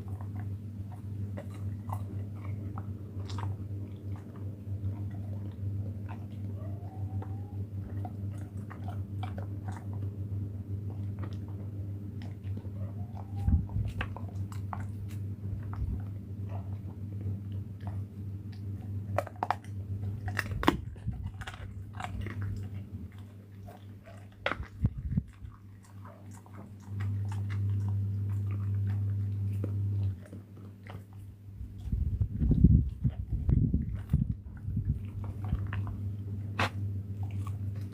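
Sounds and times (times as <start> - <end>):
animal chewing and crunching food: 0.0 - 37.9
steady low hum: 0.0 - 37.9.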